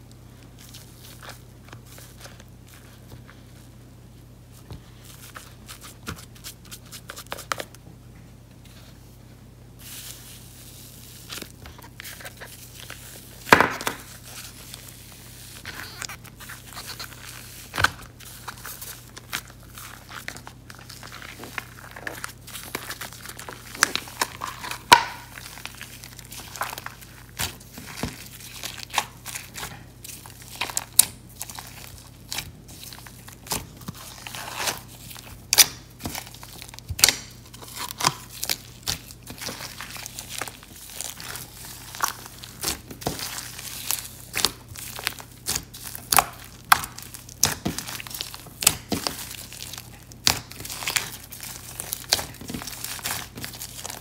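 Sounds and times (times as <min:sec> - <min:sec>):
slime kneaded by hand: 0:09.8 - 0:54.0.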